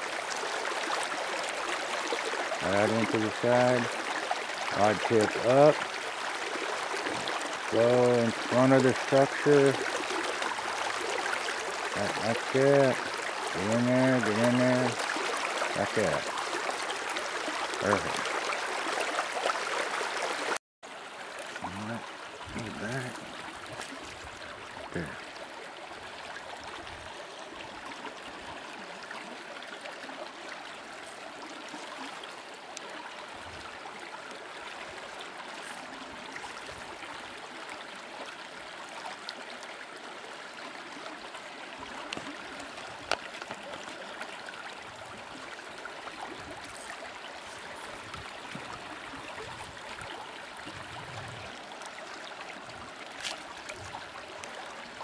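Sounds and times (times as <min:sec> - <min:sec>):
river flowing over rocks: 0:00.0 - 0:55.0.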